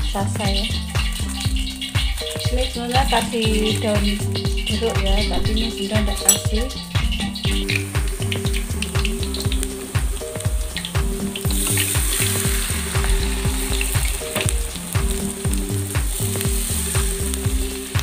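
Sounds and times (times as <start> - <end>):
background music low melody: 0.0 - 18.0
batter sizzling in hot oil: 0.0 - 18.0.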